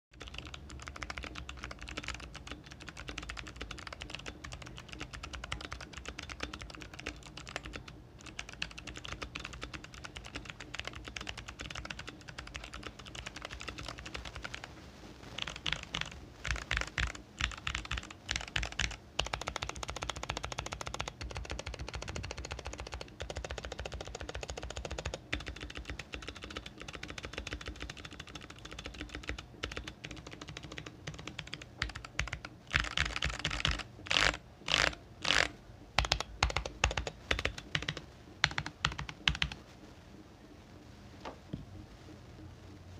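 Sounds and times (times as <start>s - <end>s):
clicky mechanical keyboard typing: 0.2s - 14.7s, 15.4s - 39.6s.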